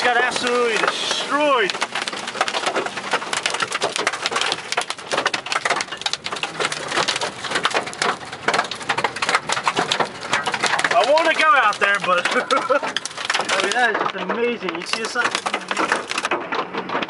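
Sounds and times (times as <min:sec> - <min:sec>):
hail pelting a car: 0:00.0 - 0:17.0.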